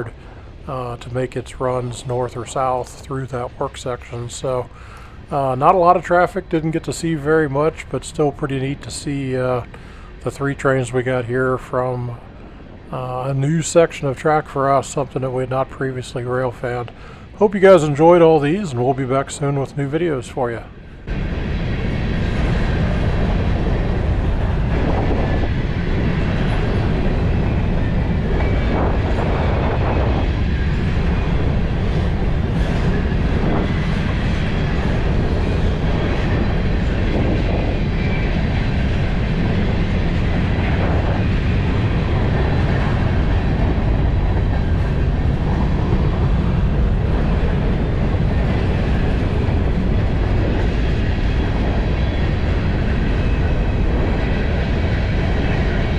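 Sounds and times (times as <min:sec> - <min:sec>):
freight train rumbling on rails: 0:00.0 - 0:55.9.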